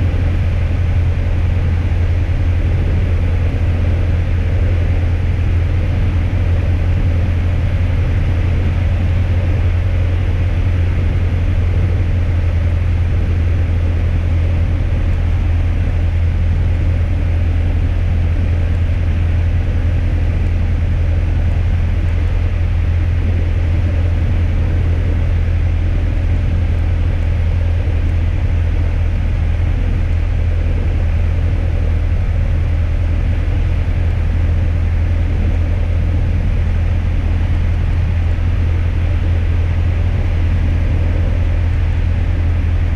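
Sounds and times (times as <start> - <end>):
aircraft engine and airflow drone: 0.0 - 42.9.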